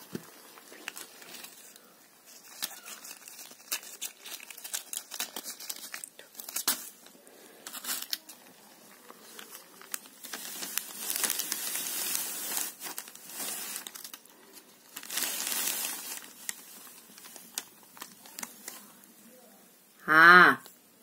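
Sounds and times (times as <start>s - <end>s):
crumpled sheet crinkling: 0.0s - 19.2s.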